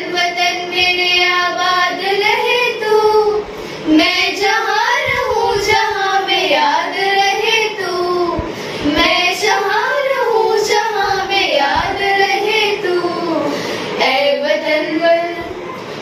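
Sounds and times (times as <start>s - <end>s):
girl singing unaccompanied: 0.0s - 15.6s.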